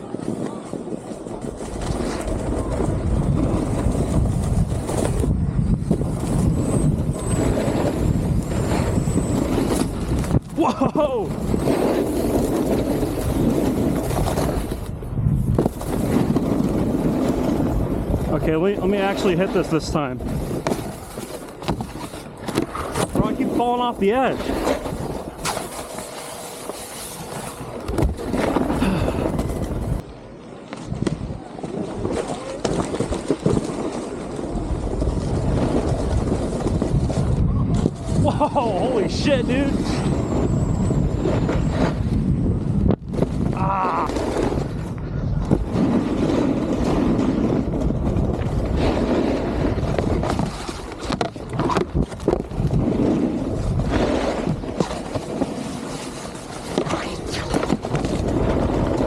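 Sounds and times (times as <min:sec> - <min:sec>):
wind on microphone: 0:00.0 - 0:23.6, 0:30.8 - 0:59.0
snowboard scraping over snow: 0:00.0 - 0:30.0, 0:30.7 - 0:59.0.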